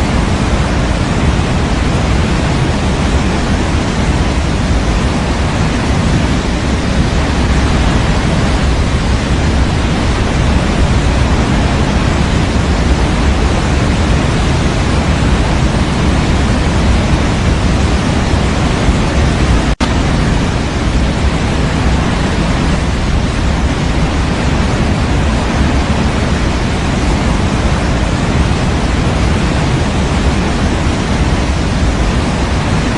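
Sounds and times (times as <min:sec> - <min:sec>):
steady white noise: 0:00.0 - 0:32.9.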